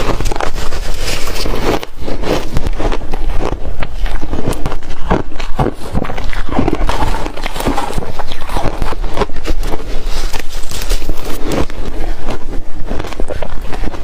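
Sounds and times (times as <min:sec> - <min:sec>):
ice being chewed and crunched: 0:00.0 - 0:14.0.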